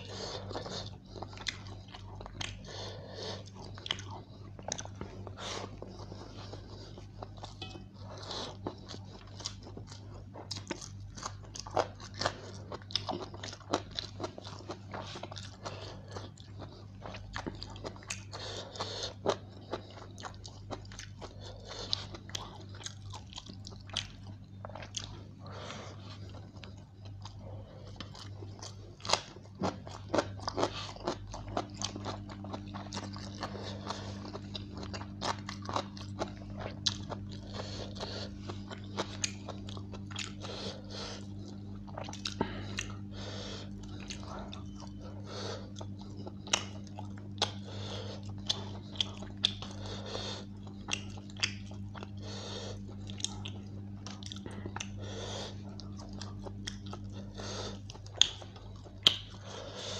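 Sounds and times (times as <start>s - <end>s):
person chewing with mouth clicks: 0.0s - 59.9s
steady low hum: 0.0s - 59.9s.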